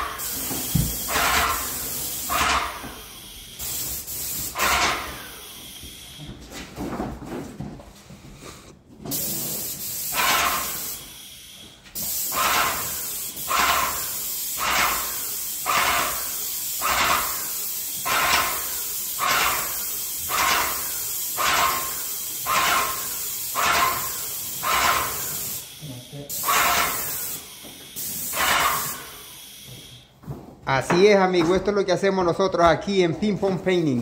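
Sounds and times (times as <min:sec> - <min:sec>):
paint sprayer gun hissing: 0:00.0 - 0:06.3, 0:09.1 - 0:30.0.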